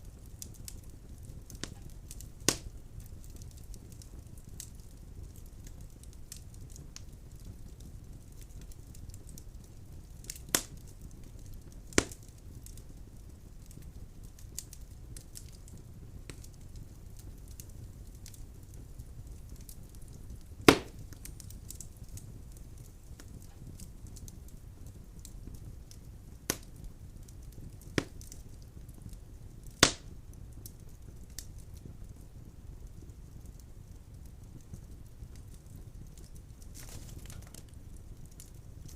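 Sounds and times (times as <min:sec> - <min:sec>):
fire crackling: 0:00.0 - 0:38.9
sharp pops of burning logs: 0:00.1 - 0:38.9.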